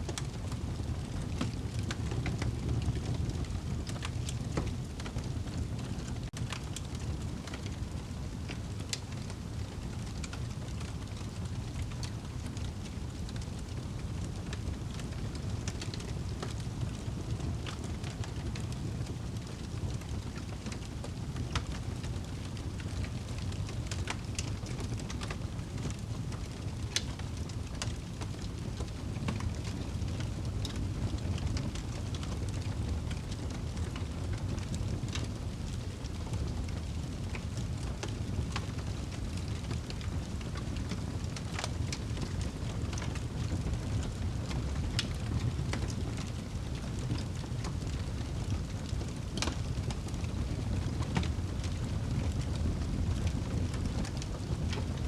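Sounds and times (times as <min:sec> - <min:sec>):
fire crackling: 0:00.0 - 0:55.0.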